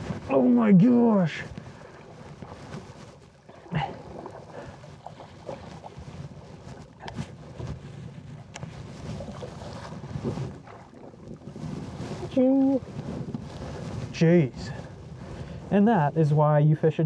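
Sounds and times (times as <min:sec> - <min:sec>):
water splashes: 0:00.0 - 0:14.2
wind on microphone: 0:00.0 - 0:16.6.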